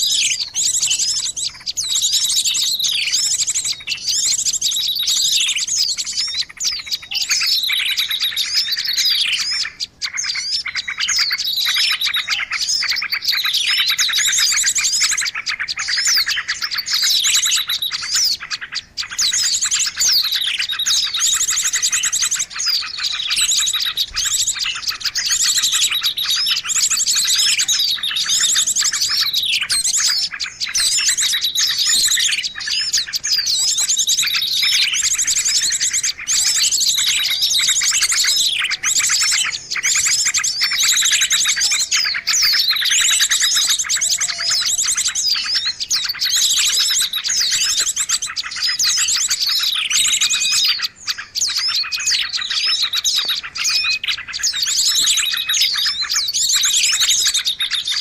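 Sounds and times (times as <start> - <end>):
chorus of small birds chirping: 0.0 - 58.0.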